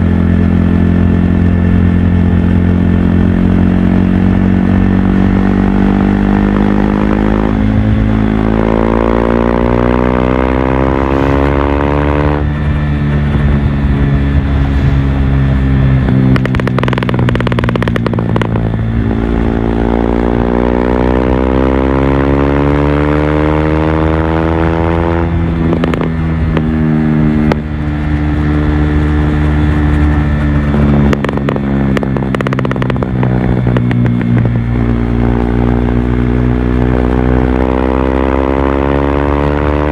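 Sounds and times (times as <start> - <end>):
exhaust crackling and popping: 0.0 - 22.8, 23.9 - 39.9
motorcycle engine accelerating: 0.0 - 39.9.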